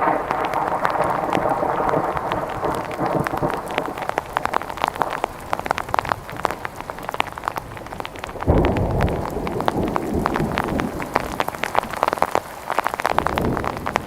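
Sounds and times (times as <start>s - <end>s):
heavy raindrops on hard surface: 0.0s - 14.0s.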